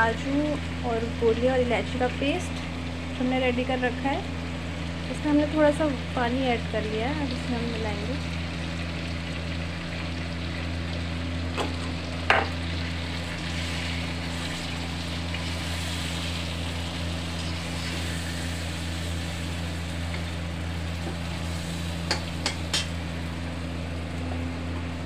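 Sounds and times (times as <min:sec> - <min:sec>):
chicken sizzling in hot oil: 0:00.0 - 0:24.3
steady low hum: 0:00.0 - 0:25.0.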